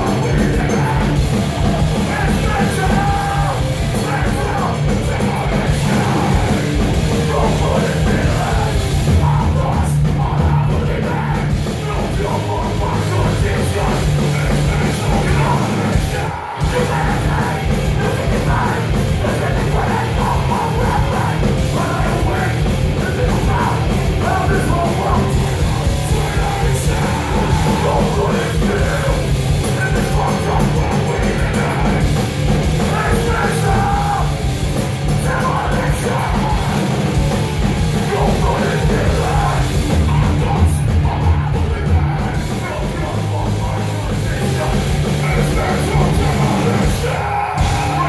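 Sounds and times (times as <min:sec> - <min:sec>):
bass guitar: 0:00.0 - 0:48.0
distorted electric guitars: 0:00.0 - 0:48.0
fast pounding drums: 0:00.0 - 0:48.0
singer yelling: 0:00.0 - 0:48.0.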